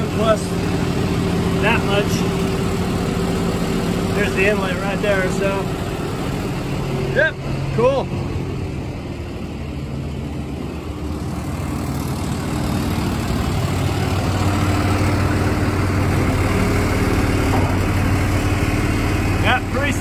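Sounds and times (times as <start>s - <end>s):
hydraulic pump hum: 0.0s - 20.0s
truck engine running: 0.0s - 20.0s.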